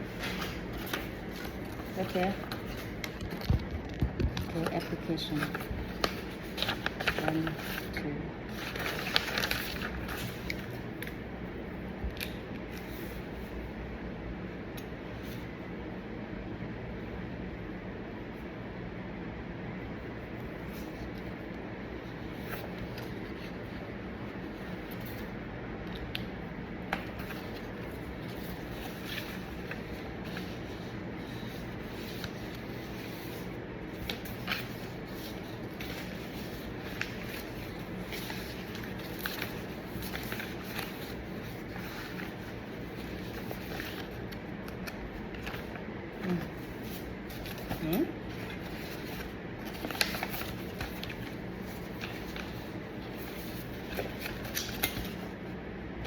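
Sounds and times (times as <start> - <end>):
paper rustling and shuffling: 0.0 - 11.3, 12.0 - 13.6, 20.4 - 55.6
low background hum: 0.0 - 56.0.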